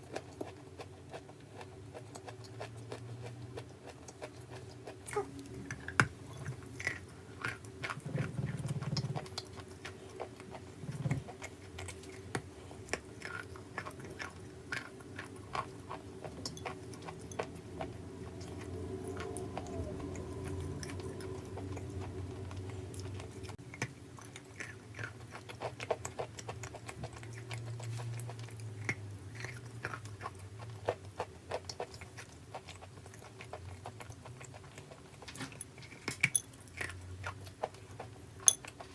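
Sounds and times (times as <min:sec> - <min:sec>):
faint low hum: 0:00.0 - 0:38.9
person chewing crunchy mineral: 0:00.0 - 0:38.9.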